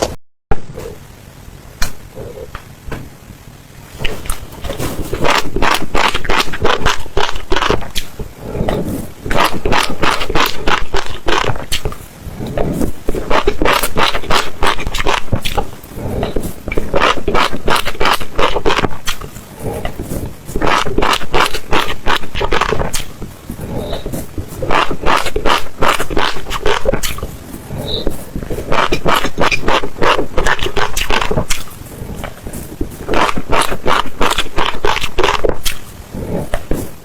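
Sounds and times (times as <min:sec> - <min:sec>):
crunchy food being chewed: 0:04.0 - 0:37.0.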